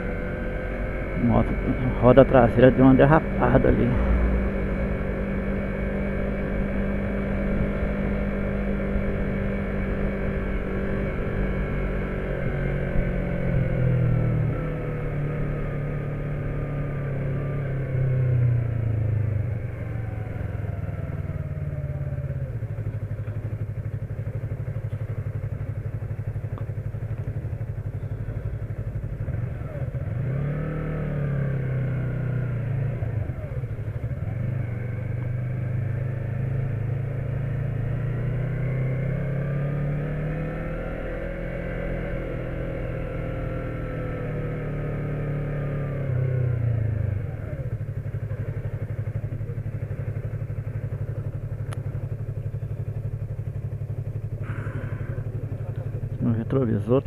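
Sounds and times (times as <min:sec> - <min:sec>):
motorcycle engine rising and falling: 0:00.0 - 0:56.6.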